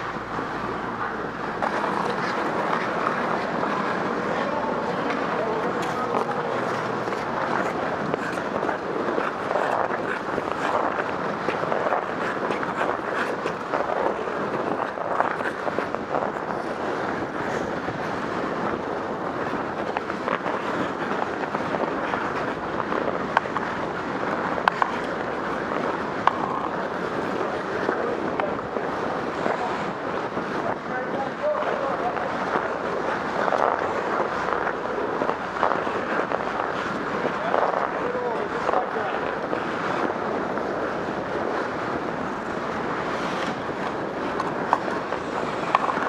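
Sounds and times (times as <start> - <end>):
skate blades scraping ice: 0.0 - 46.0.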